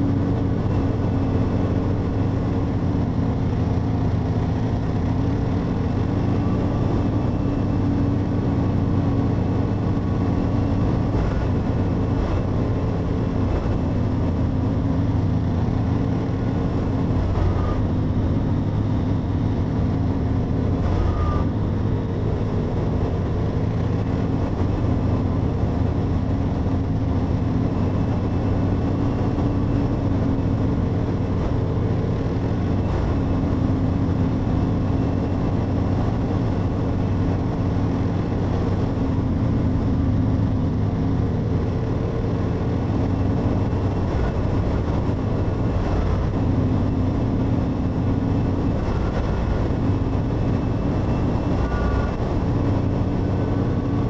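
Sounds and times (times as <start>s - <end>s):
motorcycle engine running: 0.0s - 54.0s
rush of noise: 0.0s - 54.0s.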